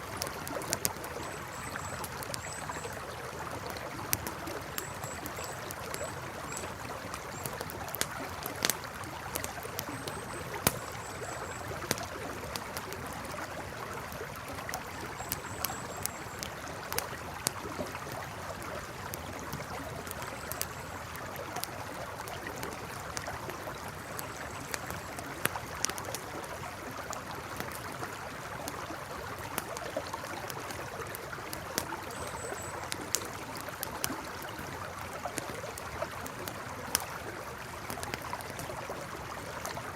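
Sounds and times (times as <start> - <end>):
campfire crackling: 0.0 - 39.9
river flowing: 0.0 - 39.9.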